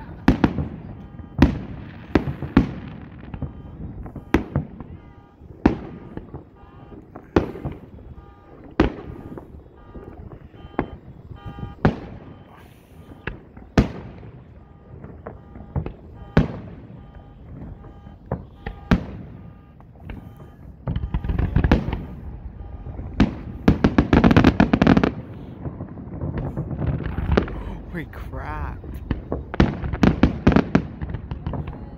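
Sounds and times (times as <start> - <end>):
fireworks bursting with bangs: 0.0 - 31.9
fireworks crackling: 0.0 - 31.9.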